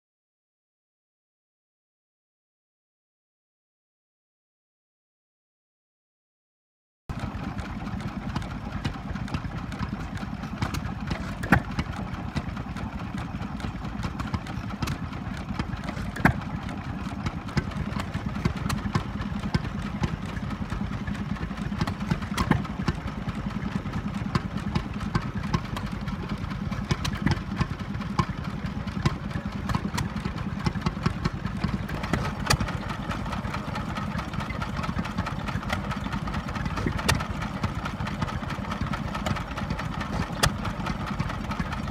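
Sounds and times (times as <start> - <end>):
engine knocks: 7.1 - 41.9
stationary engines running: 7.1 - 41.9.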